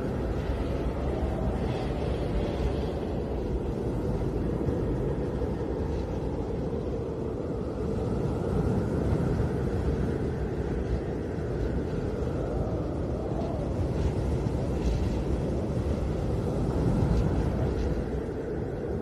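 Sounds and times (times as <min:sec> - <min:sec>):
snowstorm wind rumbling: 0:00.0 - 0:19.0
wind gust whistling: 0:00.0 - 0:19.0.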